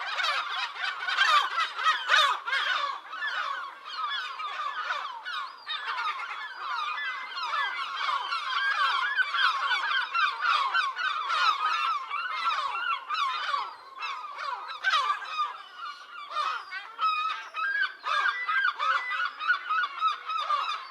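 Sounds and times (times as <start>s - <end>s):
flock of birds calling: 0.0s - 20.9s.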